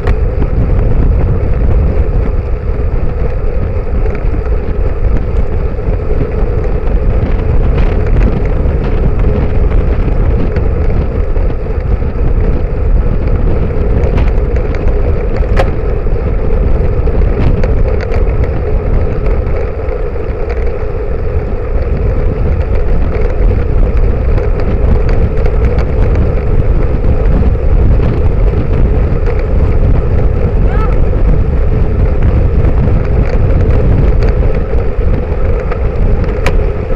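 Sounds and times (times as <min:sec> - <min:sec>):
bicycle tyre road rumble: 0:00.0 - 0:36.9
wind over microphone: 0:00.0 - 0:36.9.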